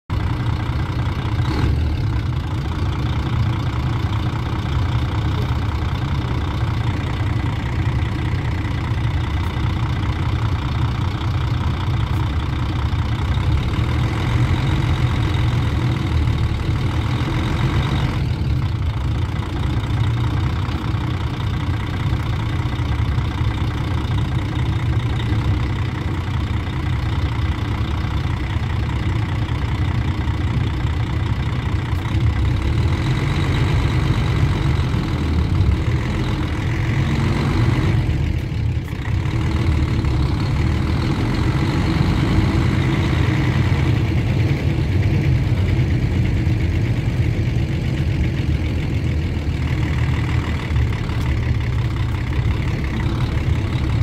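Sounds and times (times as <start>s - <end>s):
diesel coach engine idling: 0.1s - 54.0s.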